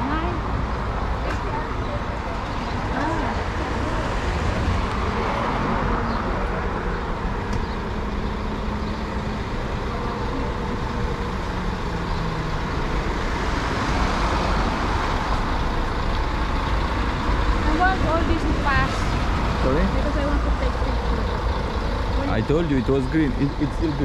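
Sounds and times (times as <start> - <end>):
tyre and road noise: 0.0 - 24.0
vehicle engines running: 0.0 - 24.0.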